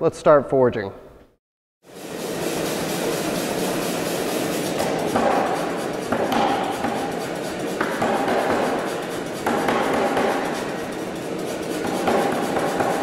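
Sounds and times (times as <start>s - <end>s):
air hammer compressor running: 1.8s - 13.0s
hammer pounding hot steel: 1.9s - 13.0s.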